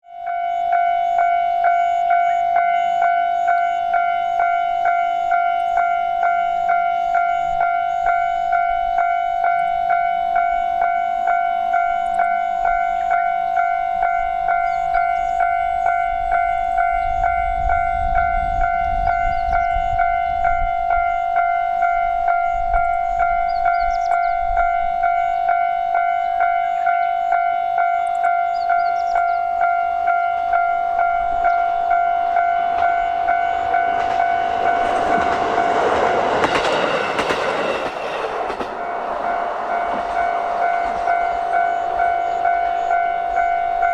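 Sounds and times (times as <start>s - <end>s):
level crossing warning bell: 0.0s - 43.9s
low rumble of passing train: 0.1s - 43.9s.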